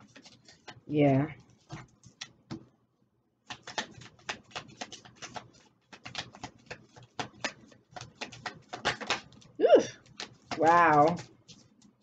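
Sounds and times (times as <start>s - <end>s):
cards being shuffled: 0.0s - 2.7s, 3.4s - 12.0s.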